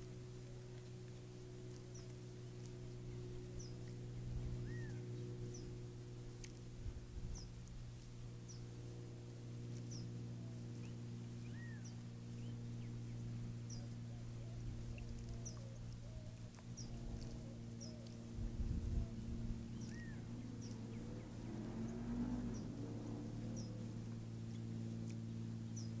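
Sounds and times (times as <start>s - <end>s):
low electronic hum: 0.0s - 26.0s
low rumble: 0.0s - 26.0s
small birds chirping: 0.0s - 26.0s.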